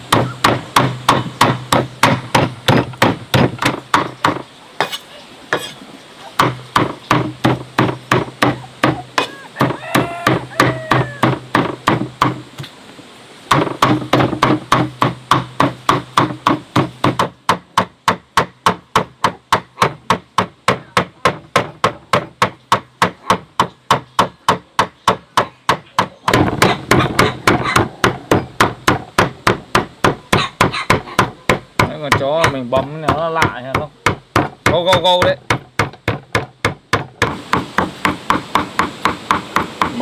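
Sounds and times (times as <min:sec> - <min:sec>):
cleaver chopping meat on wood: 0:00.1 - 0:05.8, 0:06.4 - 0:12.5, 0:13.5 - 0:40.0.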